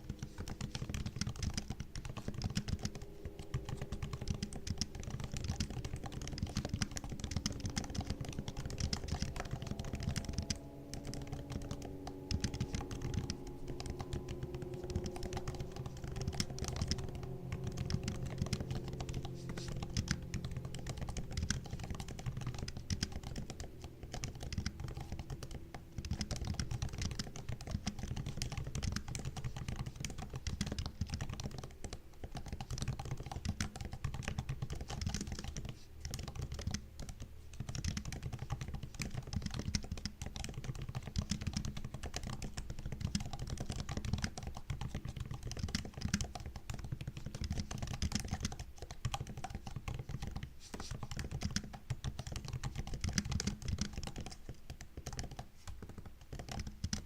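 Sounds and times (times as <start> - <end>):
laptop keyboard typing: 0.0 - 57.0.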